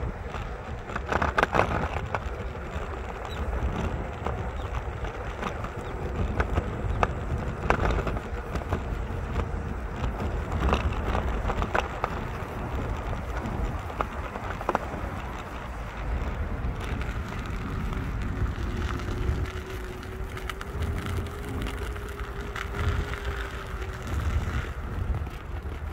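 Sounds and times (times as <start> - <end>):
road traffic: 0.0 - 25.9
wind on microphone: 0.0 - 25.9.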